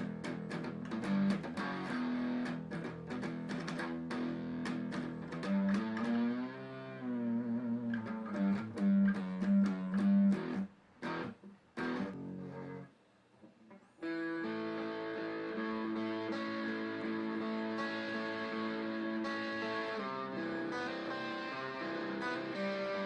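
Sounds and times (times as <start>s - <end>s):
solo guitar: 0.0s - 23.0s.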